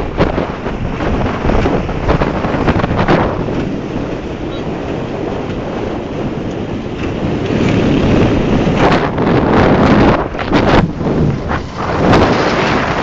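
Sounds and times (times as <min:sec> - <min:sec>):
steady ride rumble: 0:00.0 - 0:13.0
wind buffeting microphone: 0:00.0 - 0:13.0.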